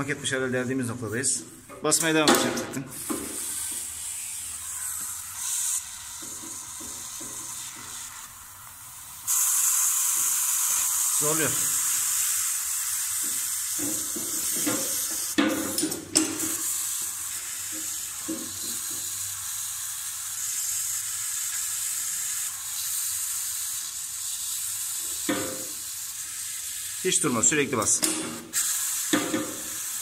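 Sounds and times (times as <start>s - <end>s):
water hissing from pipe leak: 2.9s - 30.0s.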